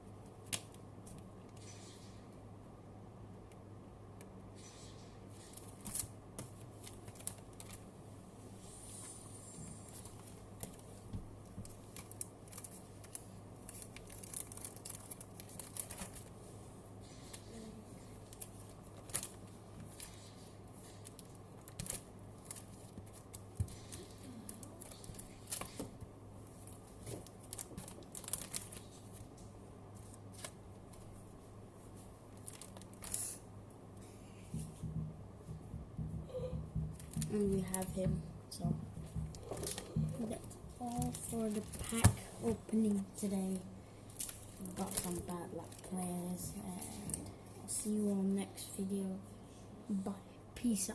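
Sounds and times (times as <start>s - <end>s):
trading cards flicking and rustling: 0.0s - 2.4s, 4.5s - 8.0s, 8.6s - 33.5s, 36.8s - 48.3s
steady low hum: 0.0s - 50.9s.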